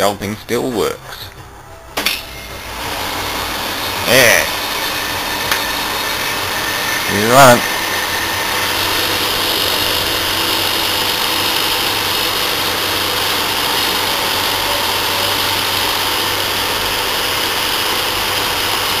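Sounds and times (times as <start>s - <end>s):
air conditioner fan rushing: 0.0s - 19.0s
compressor low hum: 0.0s - 19.0s.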